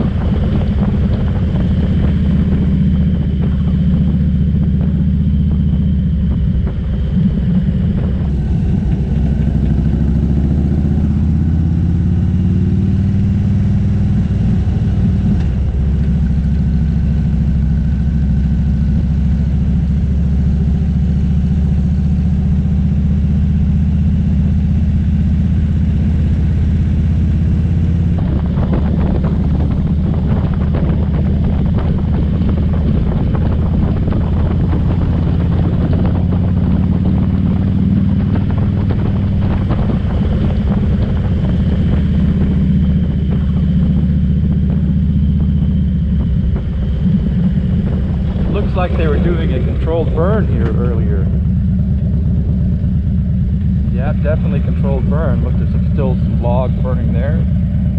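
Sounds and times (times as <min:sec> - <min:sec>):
wind rushing past microphone: 0:00.0 - 0:17.7, 0:27.5 - 0:57.9
motorcycle engine running: 0:00.0 - 0:57.9.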